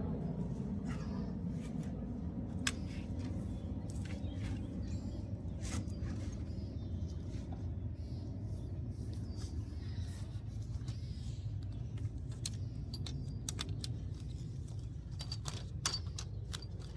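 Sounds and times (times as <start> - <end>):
steady low rumble: 0.0 - 16.9.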